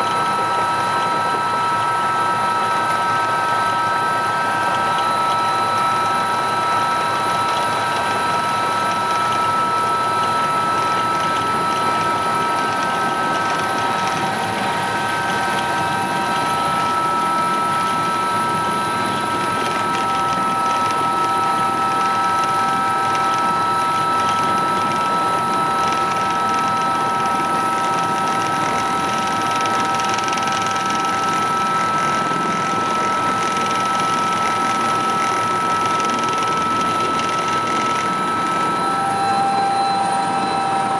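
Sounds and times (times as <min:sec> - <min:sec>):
helicopter engine and rotor rush: 0:00.0 - 0:40.9
high-pitched turbine whines: 0:00.0 - 0:40.9.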